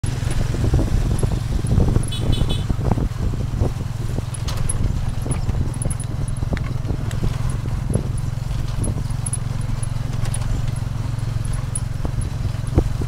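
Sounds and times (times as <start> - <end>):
low engine rumble: 0.0 - 13.0
carriage knocking and rattling: 0.1 - 13.0.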